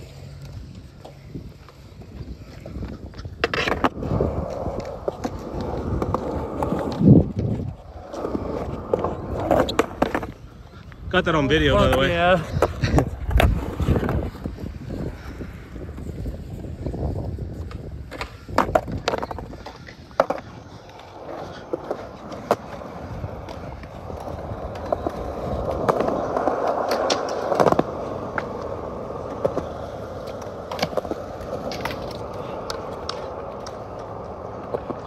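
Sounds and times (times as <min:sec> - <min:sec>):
skateboard clacking on ground: 0:00.0 - 0:35.0
skateboard wheels rolling on concrete: 0:00.0 - 0:35.0.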